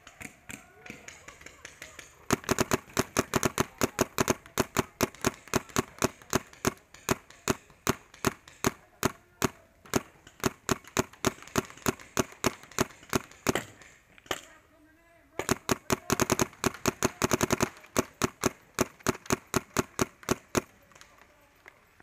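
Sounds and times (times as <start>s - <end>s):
paintball marker firing: 0.0s - 14.6s, 15.4s - 21.5s.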